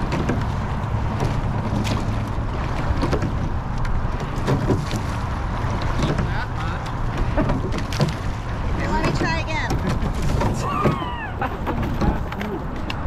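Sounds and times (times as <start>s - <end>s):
oars knocking and splashing: 0.0s - 13.0s.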